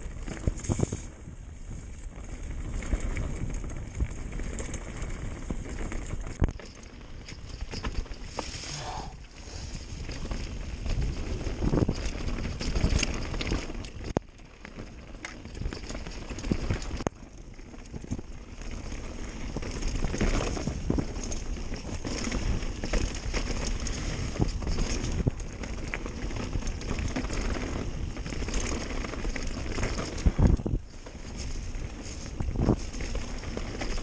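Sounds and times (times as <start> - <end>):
bike rattling over bumps: 0.0 - 34.0
bike tyres rolling over dirt: 0.0 - 34.0.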